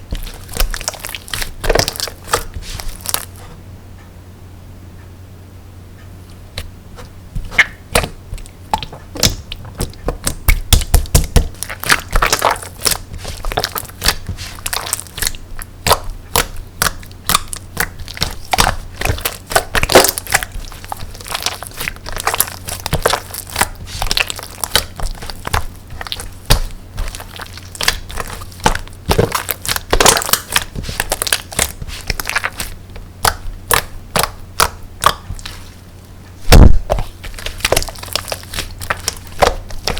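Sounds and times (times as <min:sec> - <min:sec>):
slime squeezed by hand crackling: 0:00.1 - 0:03.5, 0:07.4 - 0:35.8, 0:36.4 - 0:39.9.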